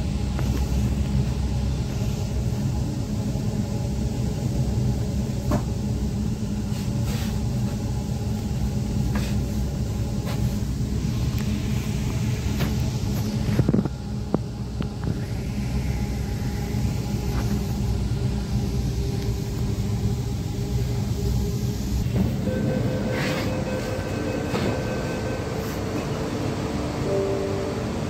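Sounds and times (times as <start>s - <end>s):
train wheels rumbling on track: 0.0s - 28.0s
train whine: 0.0s - 28.0s.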